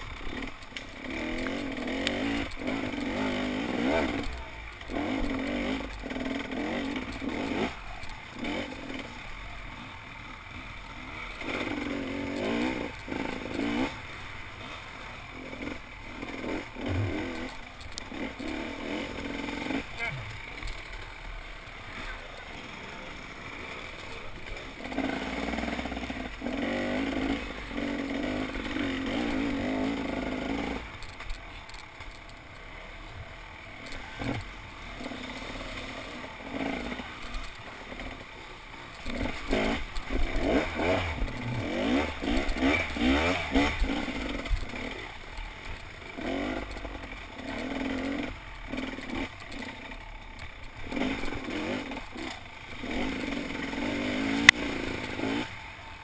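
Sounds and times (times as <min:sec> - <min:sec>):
bike rattling over rough ground: 0:00.0 - 0:56.0
dirt bike engine revving: 0:00.0 - 0:56.0.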